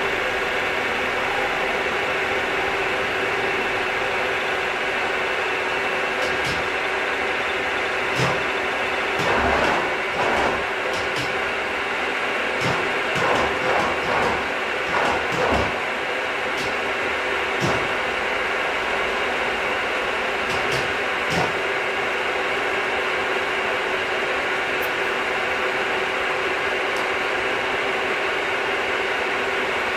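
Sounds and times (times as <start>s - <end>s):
milling machine motor hum: 0.0s - 29.9s.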